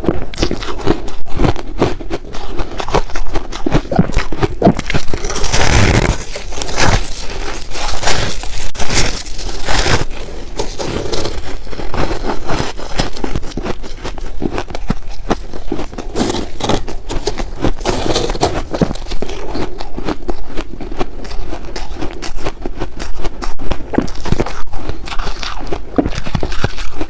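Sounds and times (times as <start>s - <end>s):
chewing ice crunches: 0.0s - 27.0s.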